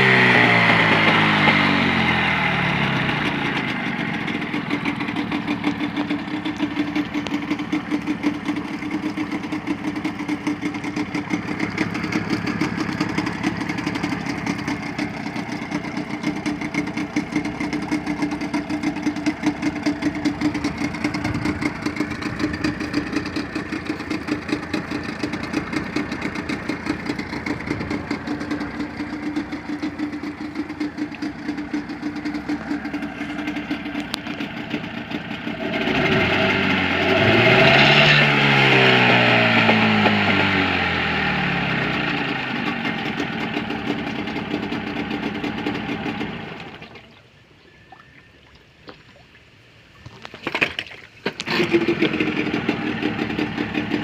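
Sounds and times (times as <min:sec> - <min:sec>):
engine idling: 0:00.0 - 0:37.7, 0:38.3 - 0:47.2, 0:51.3 - 0:54.0.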